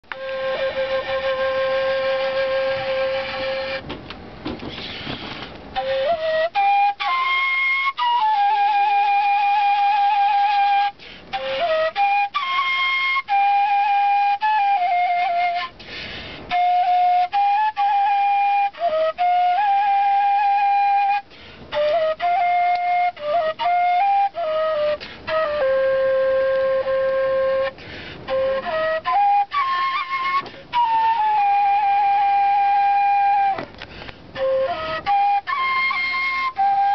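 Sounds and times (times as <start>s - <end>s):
end-blown flute slow melody: 0.0s - 4.0s, 5.3s - 15.8s, 16.5s - 36.9s.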